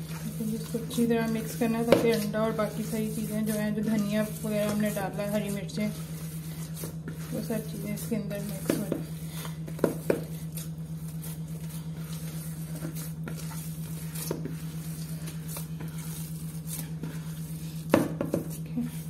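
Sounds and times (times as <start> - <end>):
hands squelching wet mixture: 0.0 - 17.9
steady low hum: 0.0 - 19.0.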